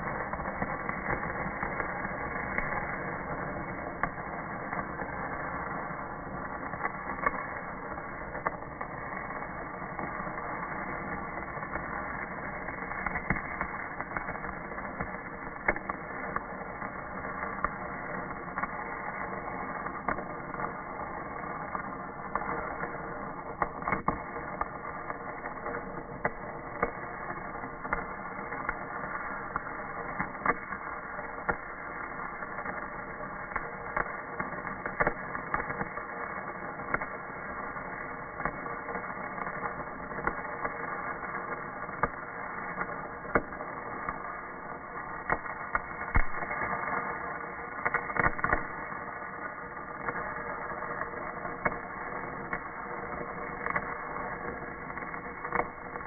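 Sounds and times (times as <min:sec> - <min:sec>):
spatter popping: 0:00.0 - 0:56.0
welding arc crackling hiss: 0:00.0 - 0:56.0.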